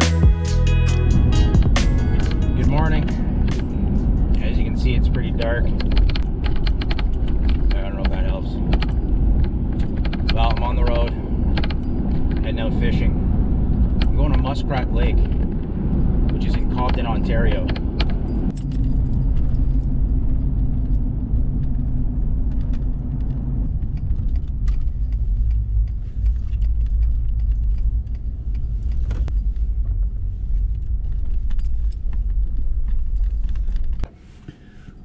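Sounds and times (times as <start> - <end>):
vehicle engine and road rumble: 0.0 - 35.0
small rattles and clicks: 2.2 - 34.1.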